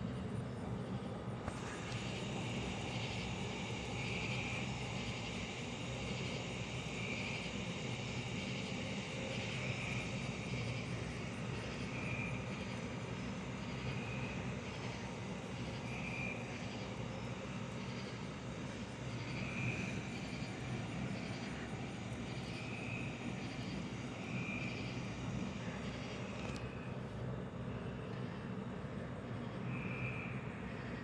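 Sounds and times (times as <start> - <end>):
low outdoor night hum: 0.0 - 31.0.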